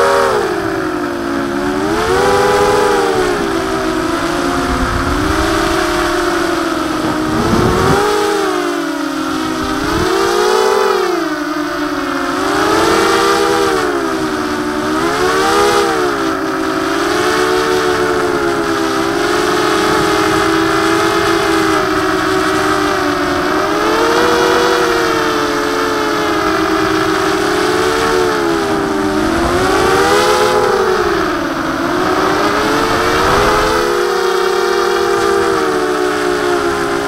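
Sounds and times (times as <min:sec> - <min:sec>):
quadcopter motors whining: 0:00.0 - 0:37.0
wind rumble on microphone: 0:00.0 - 0:37.0.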